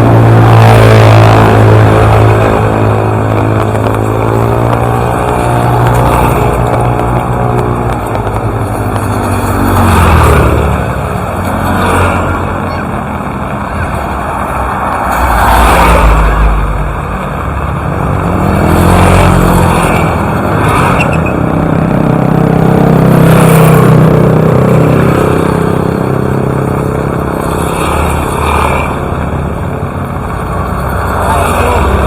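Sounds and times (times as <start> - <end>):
steady low traffic rumble: 0.0 - 32.0
vehicles passing: 0.0 - 32.0.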